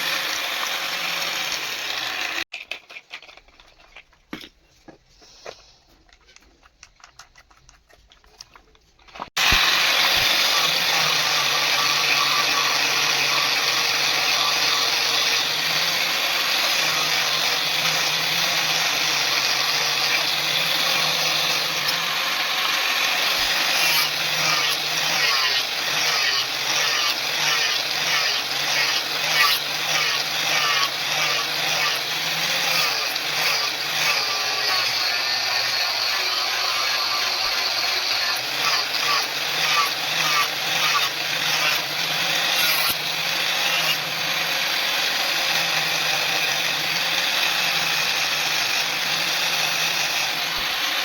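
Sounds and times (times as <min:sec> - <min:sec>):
electric power tool running: 0:00.0 - 0:02.5, 0:09.4 - 0:51.0.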